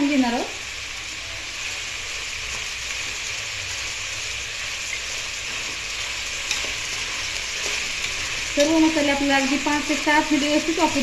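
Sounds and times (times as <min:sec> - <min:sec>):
vegetables sizzling: 0:00.0 - 0:11.0.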